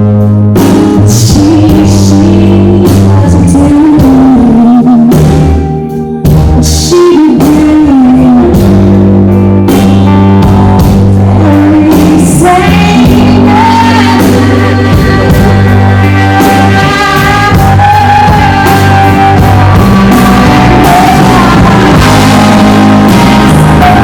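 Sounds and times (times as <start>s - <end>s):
live rock band playing: 0.0s - 24.0s
person singing: 1.0s - 24.0s.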